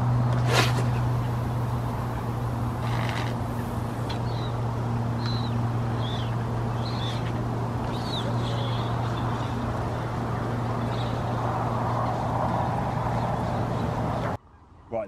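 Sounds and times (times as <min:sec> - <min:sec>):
low drone: 0:00.0 - 0:14.4
outdoor background noise: 0:00.0 - 0:15.0.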